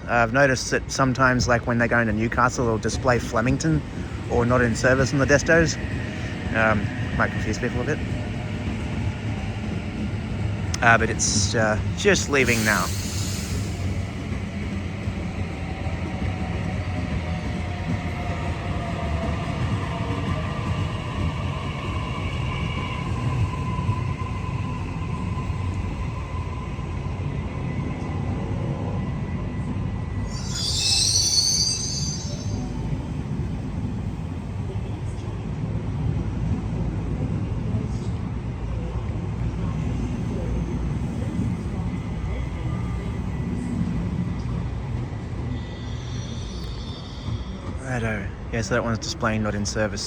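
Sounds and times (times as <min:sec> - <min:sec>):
electric train rumbling: 0:00.0 - 0:50.0.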